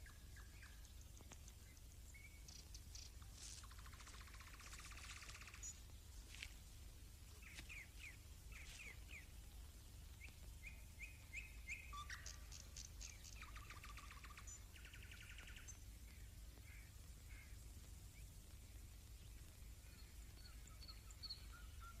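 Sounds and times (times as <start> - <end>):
birds chirping: 0.0 - 6.7, 7.3 - 22.0.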